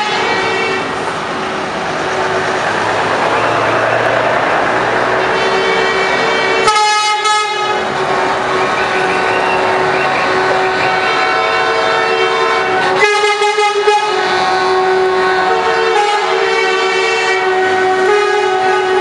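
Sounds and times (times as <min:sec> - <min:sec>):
truck air horns: 0:00.0 - 0:01.1, 0:04.5 - 0:19.0
truck engines passing: 0:00.0 - 0:19.0.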